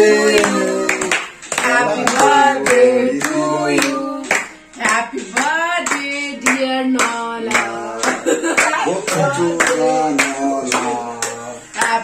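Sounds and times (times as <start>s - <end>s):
group singing: 0.0s - 12.0s
hands clapping: 0.3s - 12.0s.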